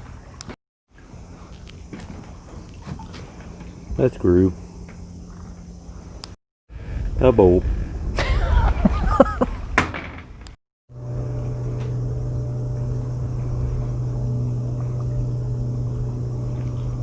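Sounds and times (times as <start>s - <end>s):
boat engine droning: 0.0s - 7.6s, 10.9s - 17.0s.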